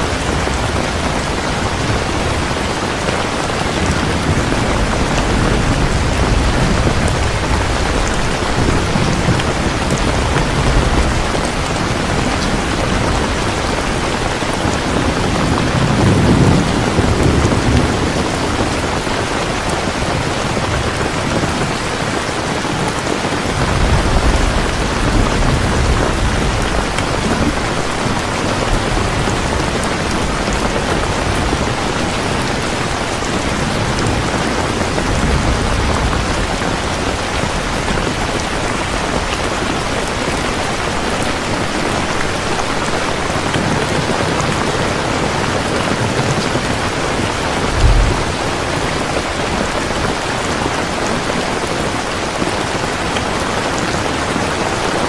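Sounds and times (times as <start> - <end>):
rolling thunder: 0.0 - 22.2, 23.2 - 43.2, 43.8 - 50.8
heavy rain: 0.0 - 55.0.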